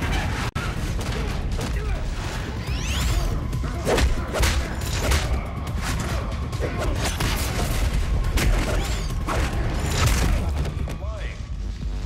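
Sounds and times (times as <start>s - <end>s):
dramatic action music: 0.0s - 12.0s.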